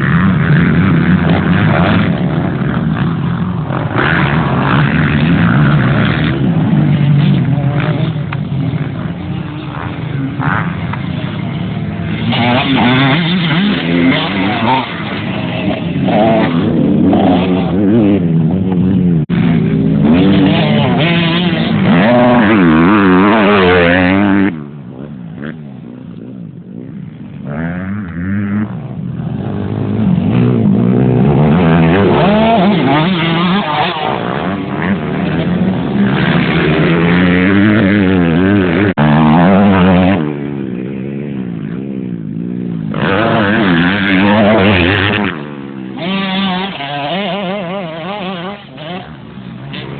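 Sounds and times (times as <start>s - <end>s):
motocross motorcycles revving: 0.0s - 49.9s.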